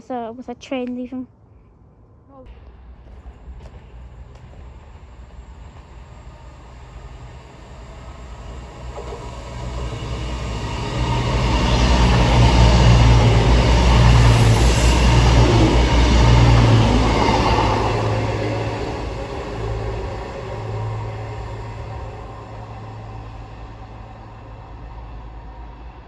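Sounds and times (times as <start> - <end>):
train passing: 2.5 - 26.0.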